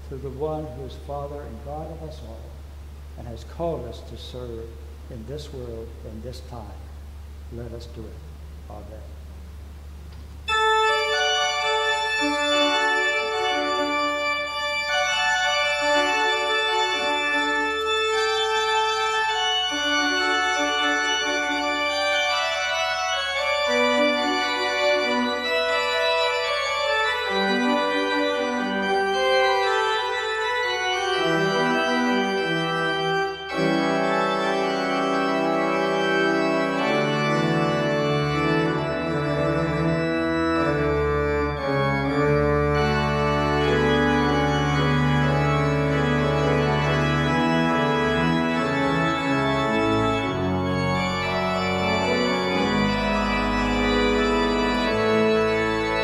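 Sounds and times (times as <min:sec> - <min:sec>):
organ music: 0:00.0 - 0:56.0.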